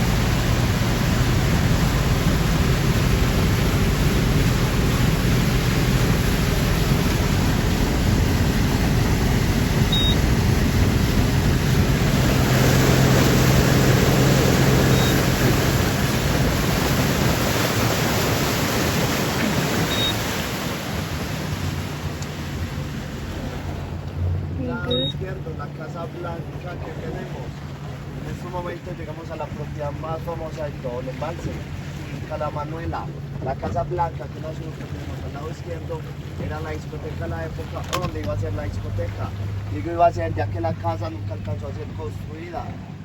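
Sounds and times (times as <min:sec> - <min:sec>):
boat engine running: 0:00.0 - 0:43.0
rush of wind and water: 0:00.0 - 0:43.0.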